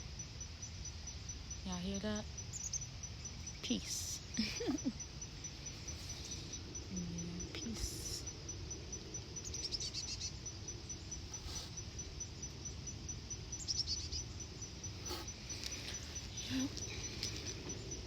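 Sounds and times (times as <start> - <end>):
insect trill: 0.0 - 18.0
bird chirping rapidly: 1.1 - 18.0.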